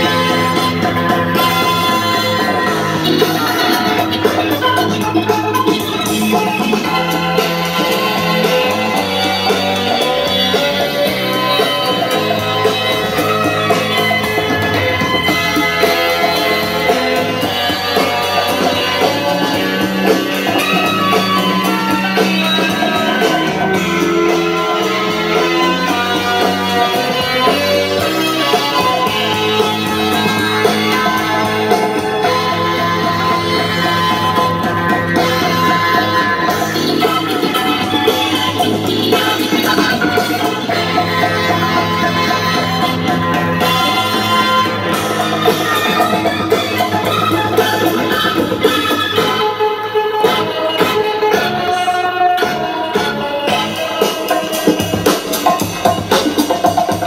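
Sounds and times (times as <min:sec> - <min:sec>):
music from speakers: 0:00.0 - 0:57.0.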